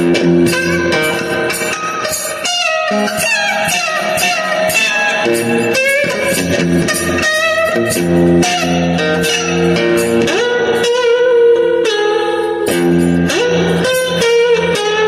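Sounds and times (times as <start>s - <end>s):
electric guitar blues lead: 0.0s - 15.0s.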